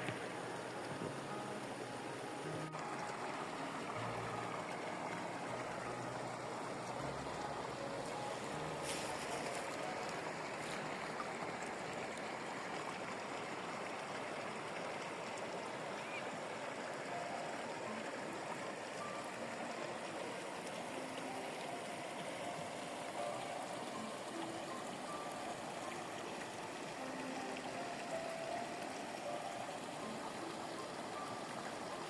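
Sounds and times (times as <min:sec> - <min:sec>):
stream flowing: 0:00.0 - 0:32.0.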